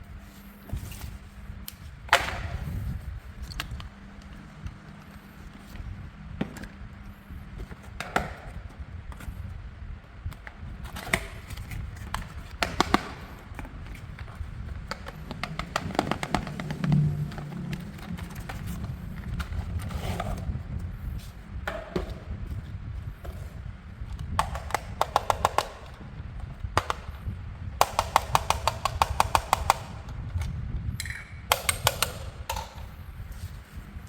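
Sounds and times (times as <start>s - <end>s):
handling noise: 0.1s - 33.9s.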